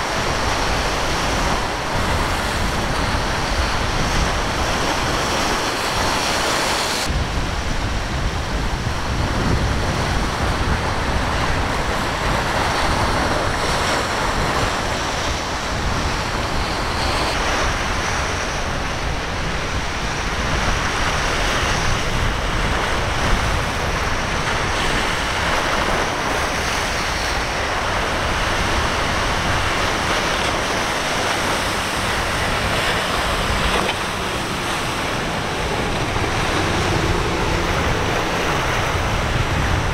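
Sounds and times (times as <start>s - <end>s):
surf and breaking waves: 0.0s - 39.9s
wind buffeting microphone: 0.0s - 39.9s.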